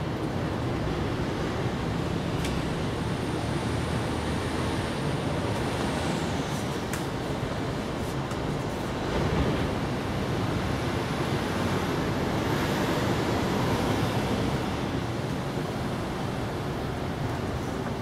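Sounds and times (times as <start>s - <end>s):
outdoor background rush: 0.0s - 18.0s.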